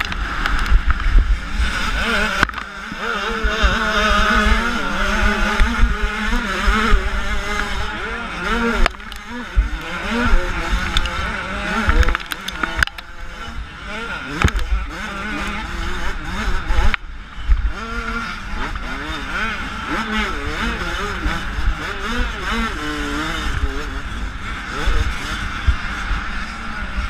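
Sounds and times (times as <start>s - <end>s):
dirt bike engine revving: 0.0s - 27.0s
wind rumbling on microphone: 0.0s - 27.0s.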